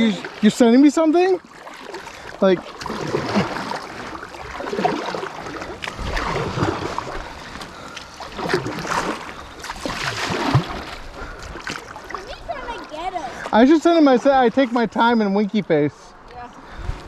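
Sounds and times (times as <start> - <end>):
kayak paddles splashing water: 0.0 - 15.7.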